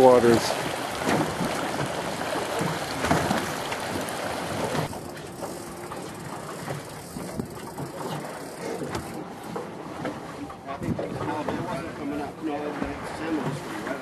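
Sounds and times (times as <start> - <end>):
boat motor running: 0.0 - 14.0
wind and water rushing: 0.0 - 14.0.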